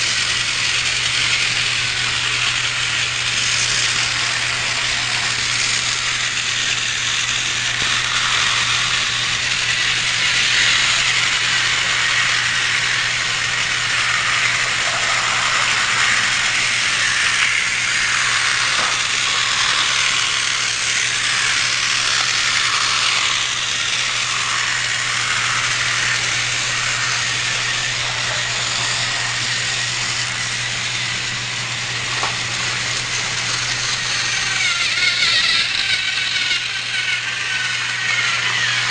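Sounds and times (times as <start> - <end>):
toy train motor whirring and rattling: 0.0 - 38.9.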